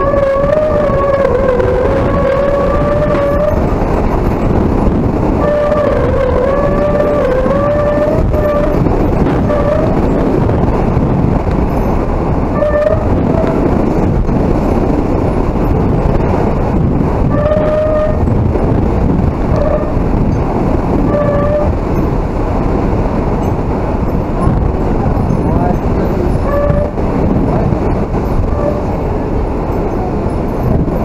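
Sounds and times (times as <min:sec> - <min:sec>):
hurricane wind: 0:00.0 - 0:31.0.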